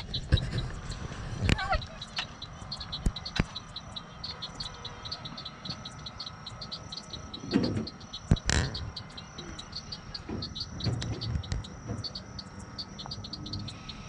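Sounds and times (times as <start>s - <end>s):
faint high whine: 0.0s - 14.0s
insects chirping: 0.0s - 14.0s.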